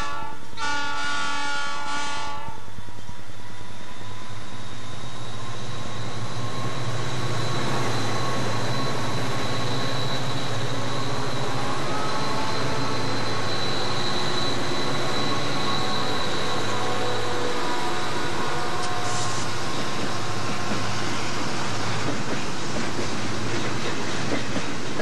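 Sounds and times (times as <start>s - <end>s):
diesel locomotive engines: 0.0s - 25.0s.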